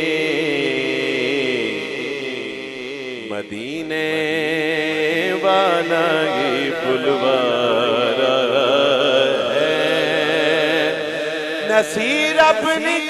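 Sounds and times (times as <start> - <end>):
man singing over loudspeakers: 0.0 - 13.0.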